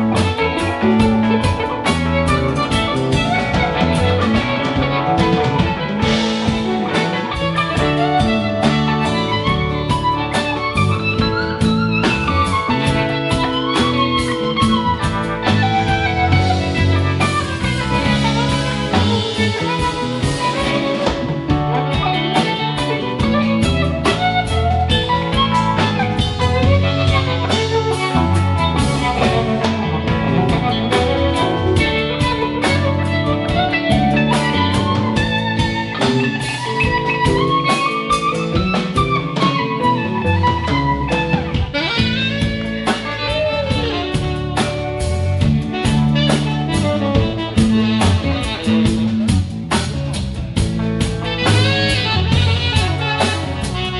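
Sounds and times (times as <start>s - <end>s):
bending lead melody: 0.0s - 53.9s
rock band playing instrumental: 0.0s - 53.9s.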